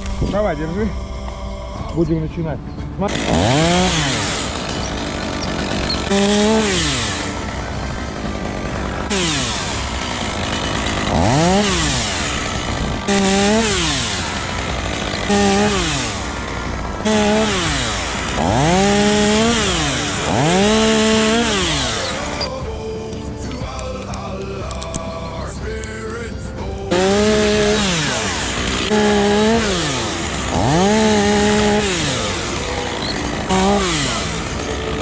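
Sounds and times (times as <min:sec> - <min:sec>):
chainsaw engine revving: 0:00.0 - 0:01.3, 0:02.9 - 0:26.0, 0:26.8 - 0:35.0.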